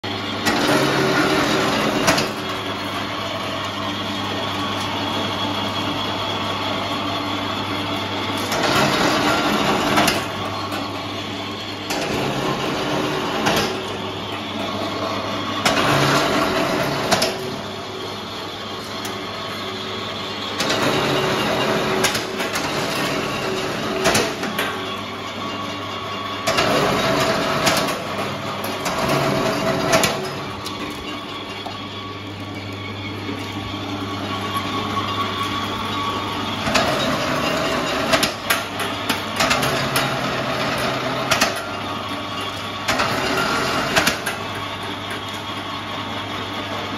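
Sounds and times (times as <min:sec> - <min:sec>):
wire stripping machine humming: 0:00.0 - 0:46.9
cable rasping through rollers: 0:00.4 - 0:06.2, 0:07.7 - 0:45.4.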